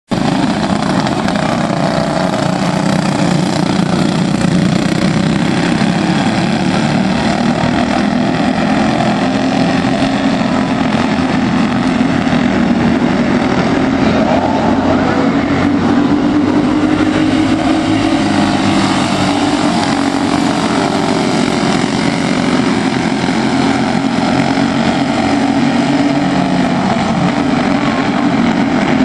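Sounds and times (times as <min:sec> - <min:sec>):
small race car engines buzzing: 0:00.1 - 0:29.0.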